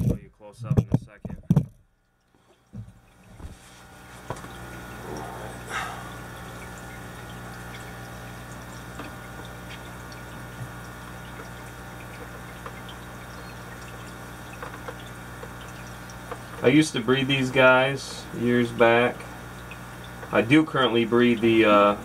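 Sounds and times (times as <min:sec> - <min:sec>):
low electrical hum: 0:00.0 - 0:22.0
water trickling: 0:00.0 - 0:22.0.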